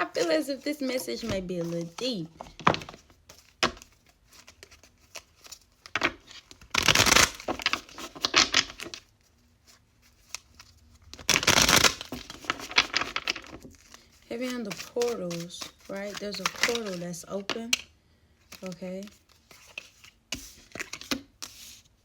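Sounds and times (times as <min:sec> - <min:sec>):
cards being shuffled: 0:00.0 - 0:17.8, 0:18.5 - 0:21.9.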